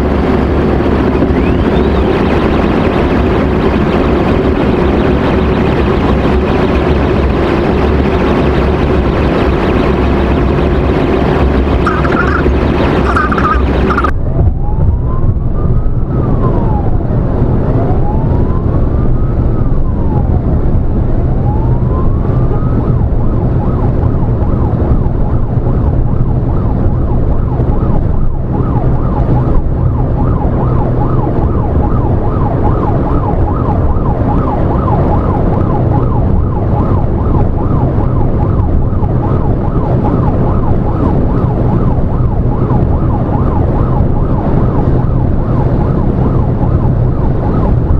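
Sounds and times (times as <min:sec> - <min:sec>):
emergency siren wail and yelp: 0:00.0 - 0:47.9
engine and road noise: 0:00.0 - 0:47.9.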